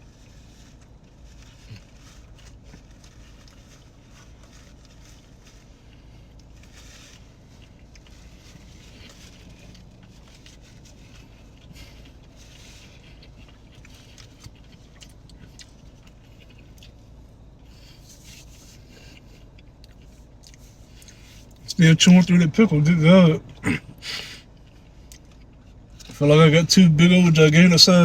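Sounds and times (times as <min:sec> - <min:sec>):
person chewing crunchy food: 0:00.0 - 0:21.6, 0:23.4 - 0:26.2
low steady hum: 0:00.0 - 0:28.0.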